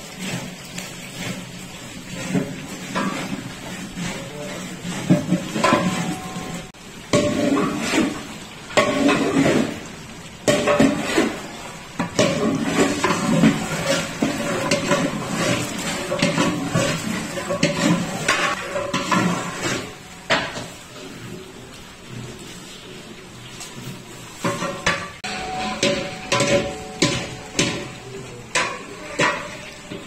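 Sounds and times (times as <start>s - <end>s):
metal ladle scraping pot: 0.0s - 21.3s, 23.6s - 30.0s.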